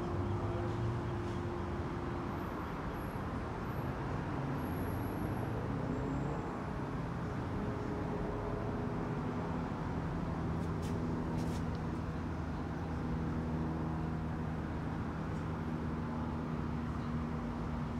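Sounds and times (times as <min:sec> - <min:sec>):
street traffic rumble: 0:00.0 - 0:17.9.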